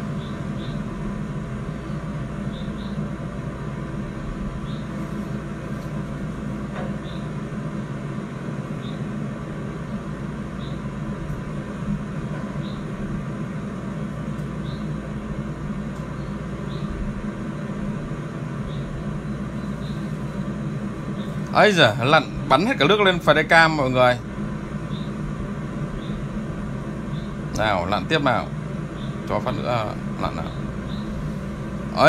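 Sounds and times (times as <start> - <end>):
drone hovering hum: 0.0 - 32.0.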